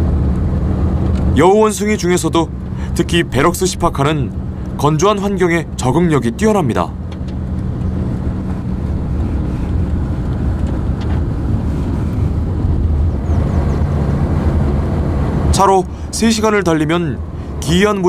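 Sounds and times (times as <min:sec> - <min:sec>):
car engine hum: 0:00.0 - 0:18.0
road and wind noise: 0:00.0 - 0:18.0.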